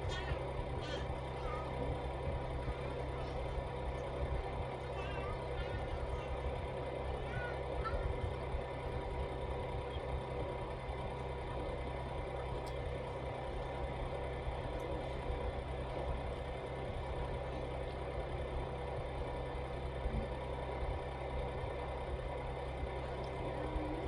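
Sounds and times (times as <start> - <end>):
faint steady tones: 0.0 - 24.0
low mechanical hum: 0.0 - 24.0.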